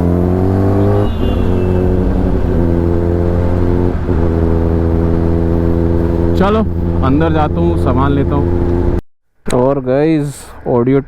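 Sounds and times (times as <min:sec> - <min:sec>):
motorcycle engine at low revs: 0:00.0 - 0:09.0.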